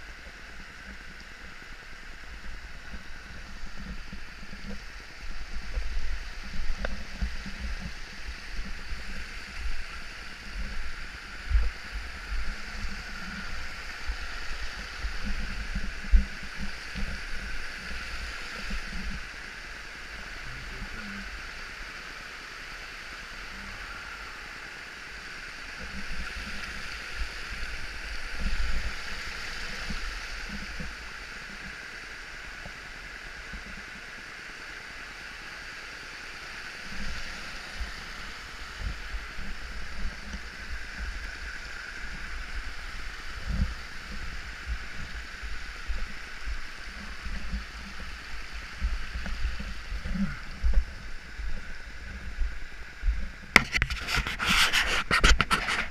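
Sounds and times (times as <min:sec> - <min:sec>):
creek rushing: 0:00.0 - 0:55.9
distant waterfall: 0:00.0 - 0:55.9.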